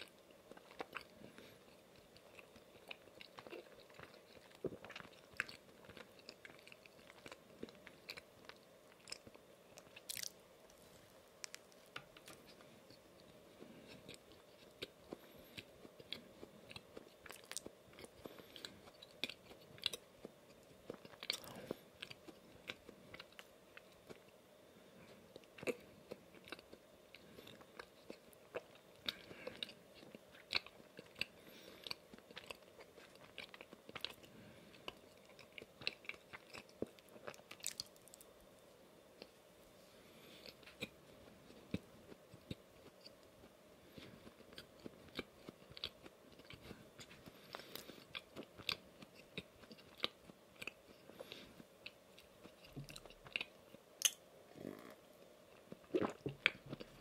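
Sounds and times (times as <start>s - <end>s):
biting and chewing donuts: 0.0s - 24.4s, 25.0s - 38.4s, 40.3s - 54.9s, 55.5s - 57.0s.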